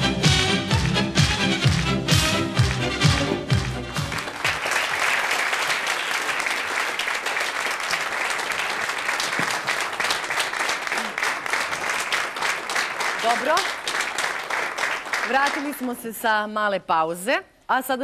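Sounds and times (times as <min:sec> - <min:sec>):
audience applauding: 0:00.7 - 0:16.0.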